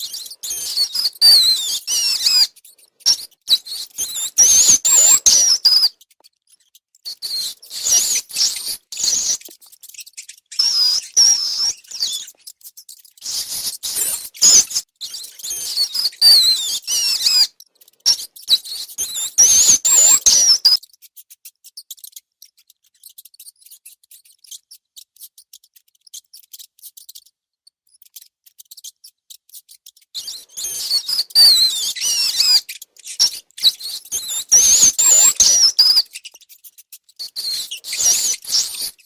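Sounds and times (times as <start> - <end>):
rats squeaking: 0.0 - 39.0.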